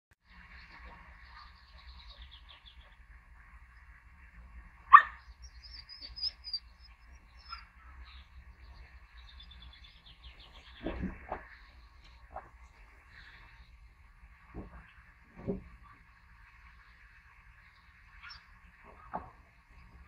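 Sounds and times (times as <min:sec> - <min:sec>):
small birds chirping: 0:00.2 - 0:15.2, 0:15.8 - 0:20.0.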